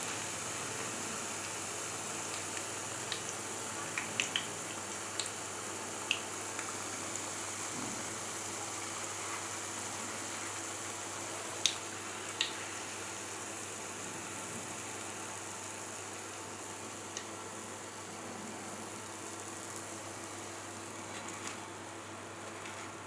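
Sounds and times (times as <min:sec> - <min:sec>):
hot oil sizzling: 0:00.0 - 0:21.5.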